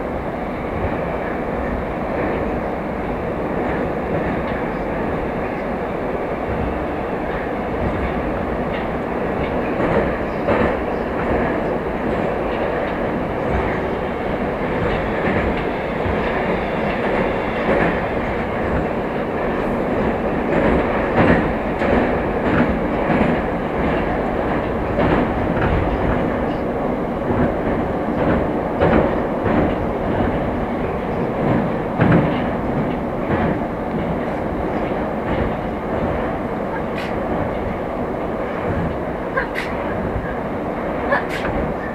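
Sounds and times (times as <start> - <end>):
train car rumble: 0.0 - 41.9
wheels clacking over rail joints: 6.4 - 41.9.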